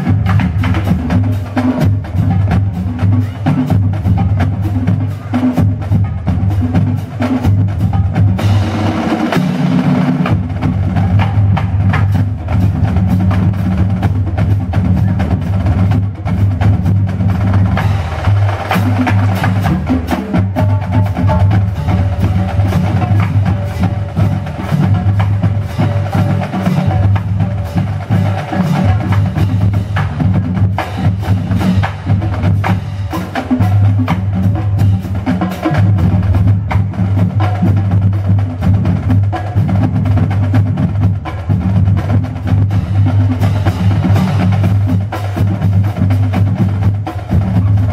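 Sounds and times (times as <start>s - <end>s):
marching drumline drumming: 0.0s - 47.9s.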